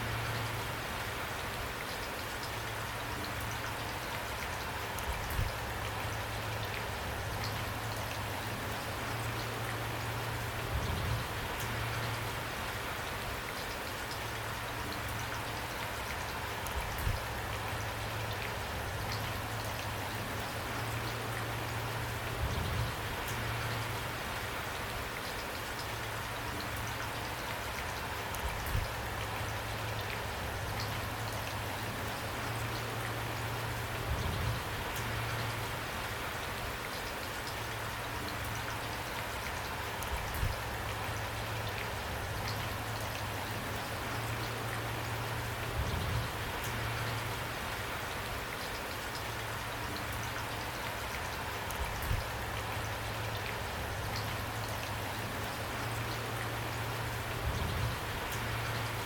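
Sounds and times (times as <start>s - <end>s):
rain drops pattering: 0.0s - 59.0s.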